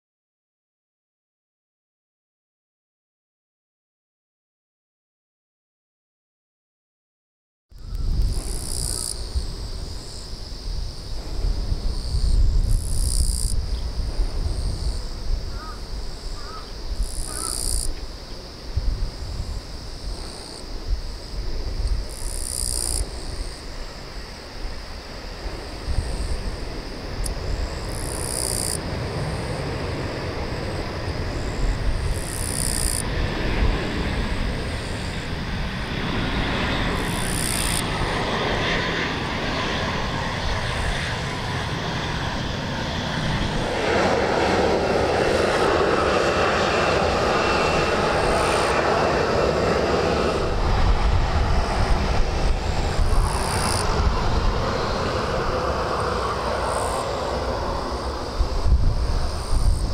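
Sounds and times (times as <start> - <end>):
jet engines whining and rumbling: 7.7 - 59.9.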